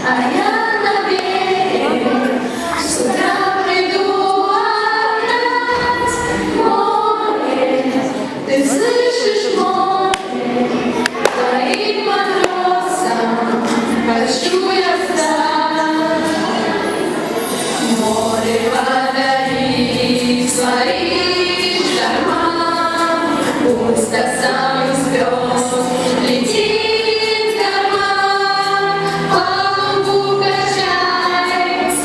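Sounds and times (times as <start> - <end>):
children's choir singing: 0.0 - 32.0.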